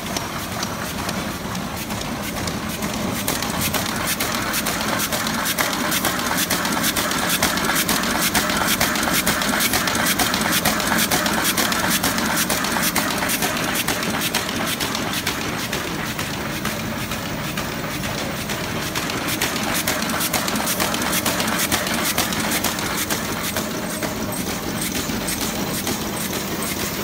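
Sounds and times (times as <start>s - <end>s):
sewing machine clatter: 0.0s - 27.0s.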